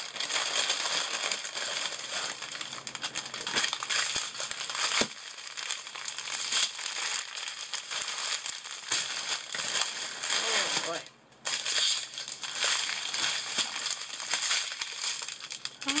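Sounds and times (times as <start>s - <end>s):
plastic bags rustling: 0.0s - 16.0s
plastic wrapping crinkling: 0.0s - 16.0s.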